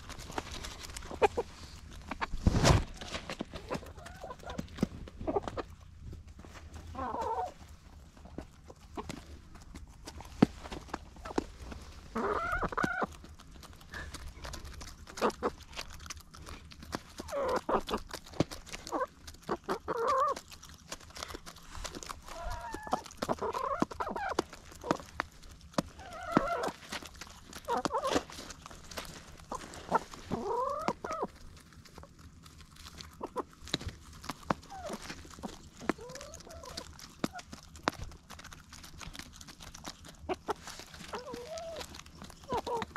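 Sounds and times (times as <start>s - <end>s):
beaks pecking at food: 0.0s - 42.9s
hens clucking: 0.0s - 42.9s.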